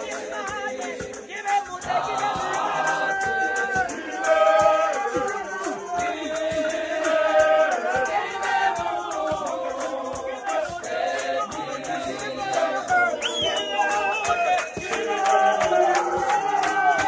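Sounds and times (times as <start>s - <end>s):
choir singing: 0.0s - 17.0s
hand claps: 0.0s - 17.0s.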